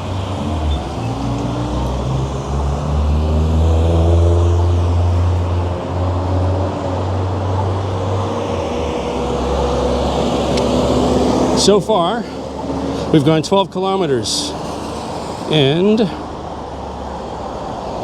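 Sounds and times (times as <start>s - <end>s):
steady low traffic rumble: 0.0s - 18.0s
vehicles passing: 0.0s - 18.0s.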